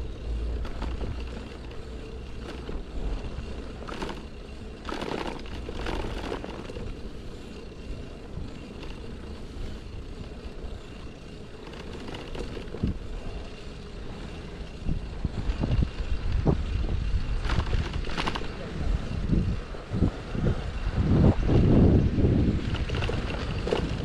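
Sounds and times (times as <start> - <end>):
low rumble of traffic: 0.0 - 24.0.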